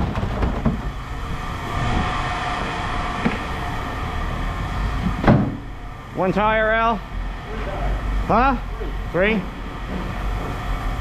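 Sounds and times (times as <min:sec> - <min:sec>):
faint constant hum: 0:00.0 - 0:11.0
machine rumbling: 0:00.0 - 0:11.0.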